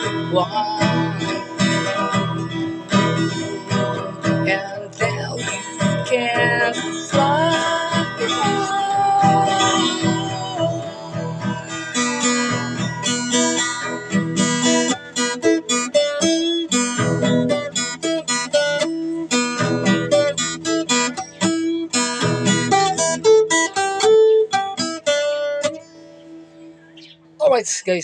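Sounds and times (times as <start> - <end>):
acoustic guitar strumming chords: 0.0 - 27.4.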